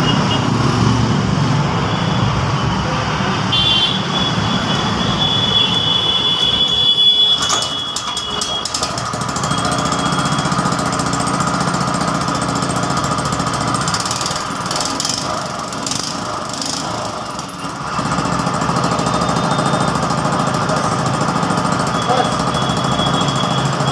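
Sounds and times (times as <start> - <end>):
small go-kart engine running: 3.6 - 23.9.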